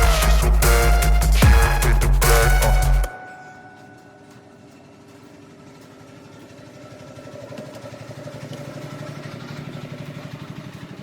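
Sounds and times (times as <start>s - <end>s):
engine running with even pulse: 0.0s - 11.0s.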